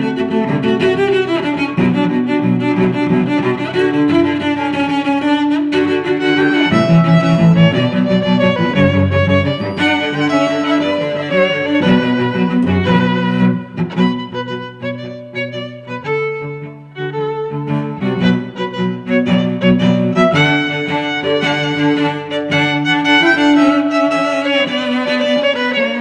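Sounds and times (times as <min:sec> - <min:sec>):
violin and cello music: 0:00.0 - 0:26.0.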